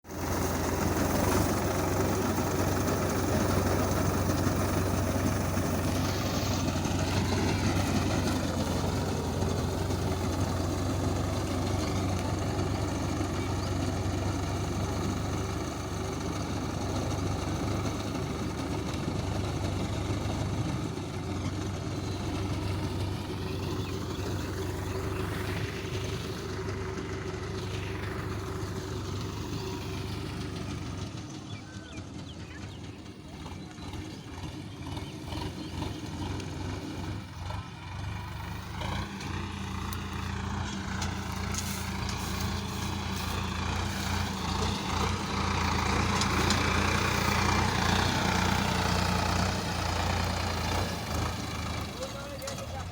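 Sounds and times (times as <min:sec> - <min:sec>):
harvester engine humming: 0:00.0 - 0:52.9.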